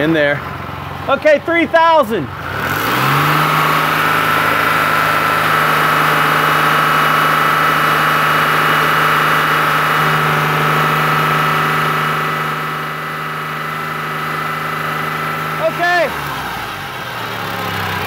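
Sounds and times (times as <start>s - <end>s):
car engine revving steadily: 0.0s - 18.0s.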